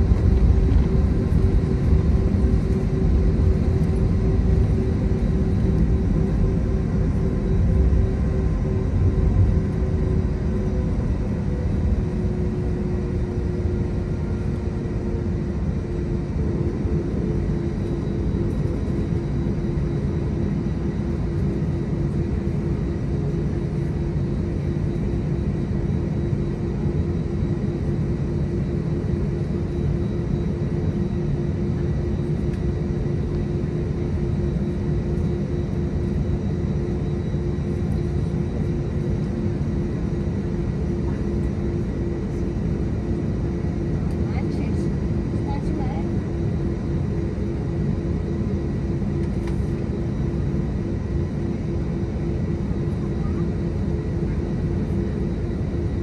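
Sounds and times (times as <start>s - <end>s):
jet engines idling in cabin: 0.0s - 56.0s.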